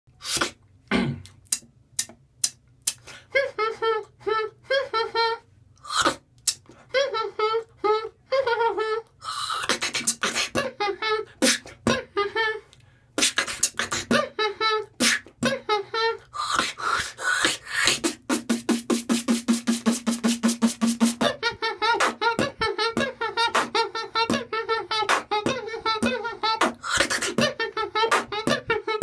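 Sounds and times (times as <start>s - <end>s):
beatboxing chicken clucks: 0.2s - 0.6s, 1.3s - 4.9s, 5.8s - 8.2s, 9.0s - 29.0s.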